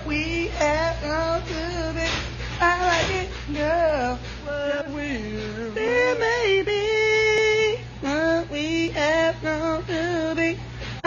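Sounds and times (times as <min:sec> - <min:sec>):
high voice singing: 0:00.0 - 0:10.6
low steady hum: 0:00.0 - 0:11.0.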